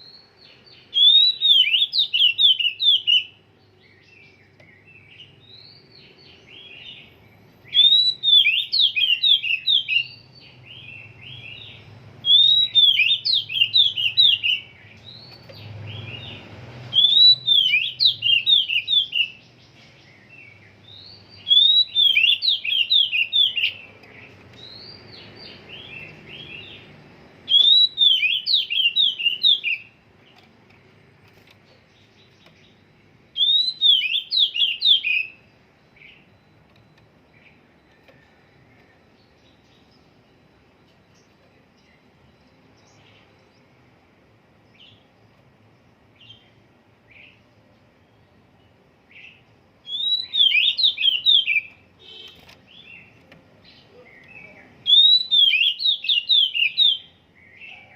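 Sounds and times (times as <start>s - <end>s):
songbird singing: 0.0s - 57.9s.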